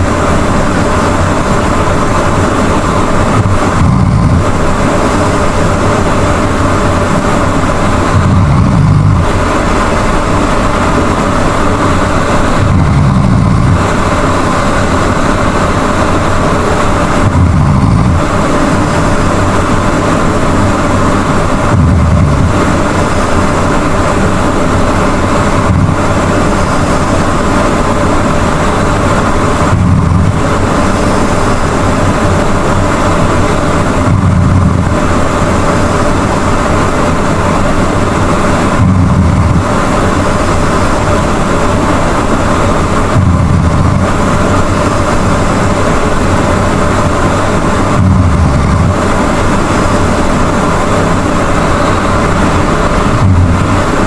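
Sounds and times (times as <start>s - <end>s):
steady noisy hiss: 0.0s - 54.0s.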